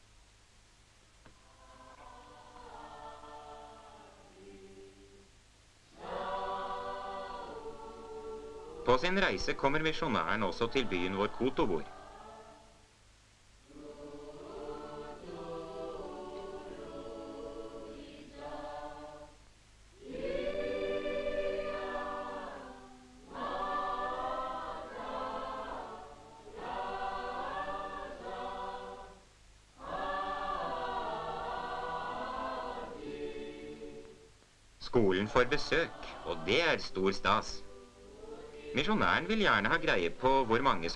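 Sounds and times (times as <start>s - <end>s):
choir singing: 1.4s - 5.3s, 5.9s - 12.8s, 13.6s - 34.3s, 34.9s - 40.9s.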